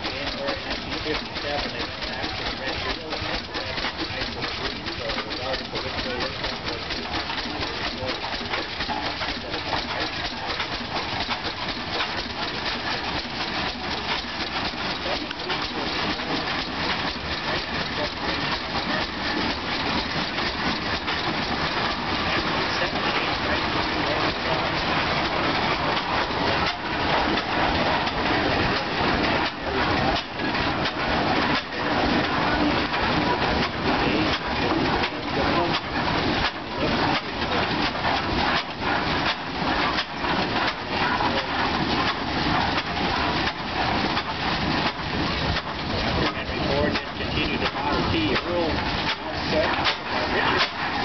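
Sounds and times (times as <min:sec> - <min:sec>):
old tractor engine exhaust beats: 0:00.0 - 0:51.0.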